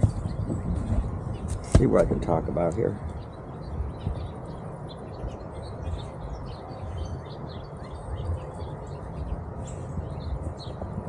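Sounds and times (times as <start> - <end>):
small birds chirping: 0.0 - 11.0
wind rumble on microphone: 0.0 - 11.0.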